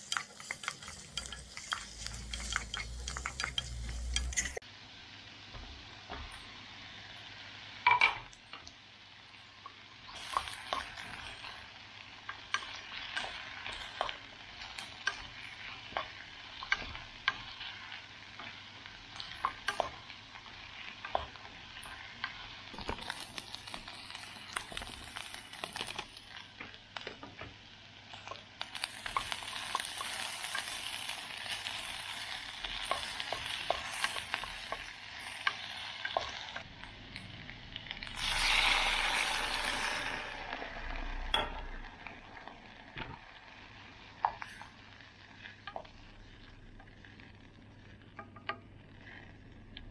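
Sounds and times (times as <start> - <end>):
vegetables sizzling in oil: 0.0 - 49.9.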